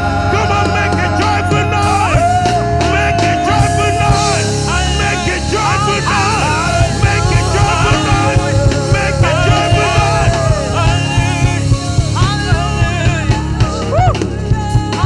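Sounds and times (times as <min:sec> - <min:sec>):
live worship band music: 0:00.0 - 0:15.0.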